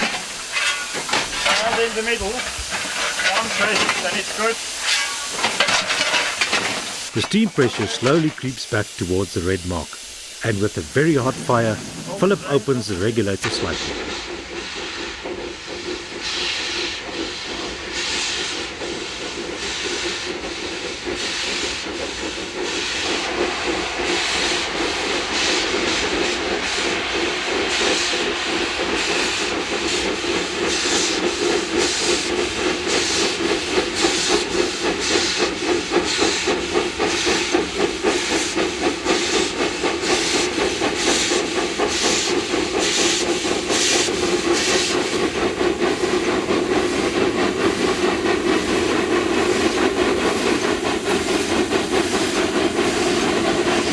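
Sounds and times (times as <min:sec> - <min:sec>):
steam locomotive exhaust beats: 0:00.0 - 0:53.9.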